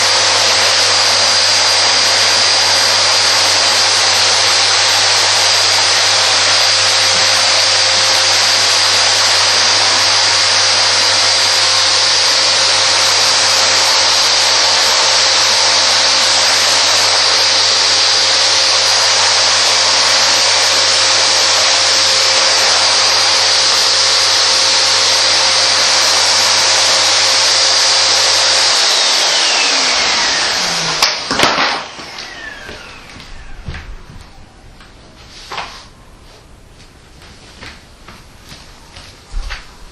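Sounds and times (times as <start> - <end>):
vacuum cleaner motor running: 0.0 - 35.2.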